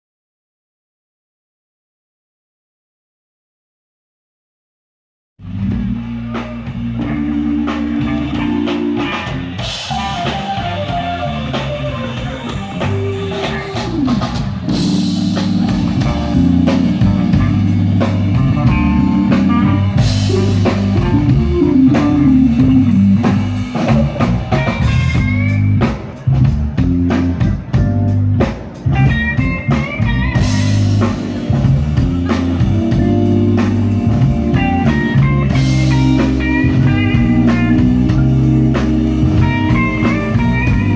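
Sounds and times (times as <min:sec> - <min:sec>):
electric blues band playing: 0:05.4 - 0:40.9.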